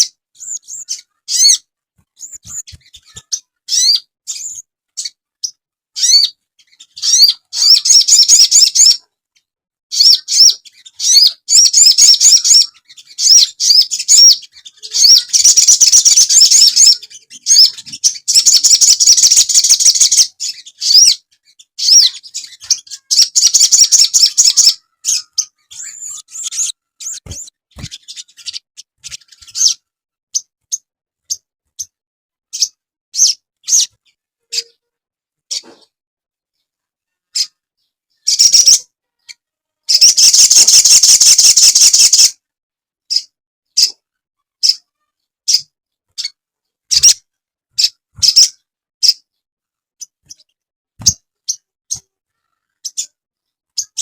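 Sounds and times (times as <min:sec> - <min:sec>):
bird chirps and trills: 0:00.0 - 0:34.8, 0:37.2 - 0:42.4, 0:43.1 - 0:44.0, 0:44.6 - 0:49.3, 0:50.0 - 0:54.0.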